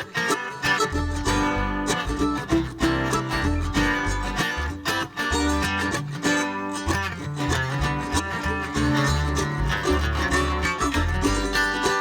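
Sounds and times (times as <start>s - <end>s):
plucked string notes: 0.0s - 12.0s
bass line: 0.8s - 12.0s.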